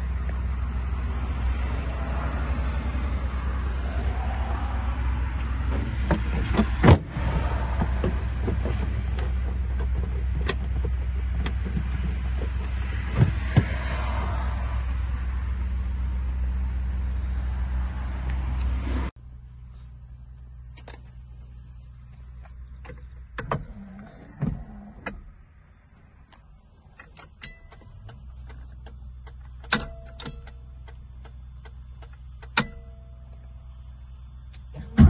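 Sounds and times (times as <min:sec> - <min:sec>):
car engine running: 0:00.0 - 0:35.0.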